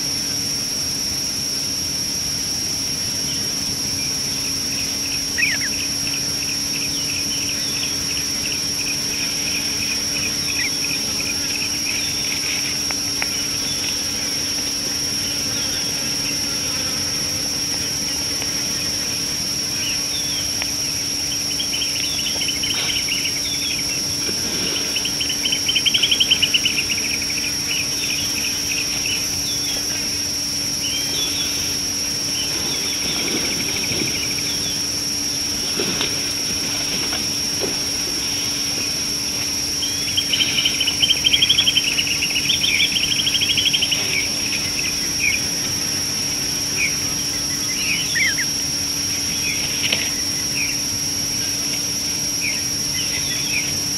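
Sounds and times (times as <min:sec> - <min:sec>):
high-pitched whine: 0:00.0 - 0:53.9
low hum: 0:00.0 - 0:53.9
birds trilling and chirping: 0:03.1 - 0:53.9.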